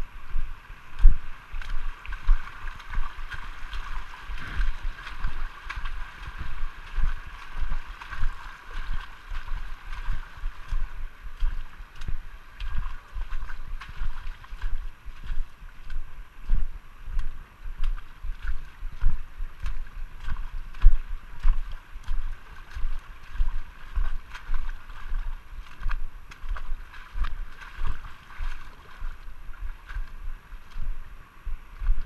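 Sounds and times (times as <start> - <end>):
flowing water: 0.0 - 32.0
footsteps wading through water: 0.0 - 32.0.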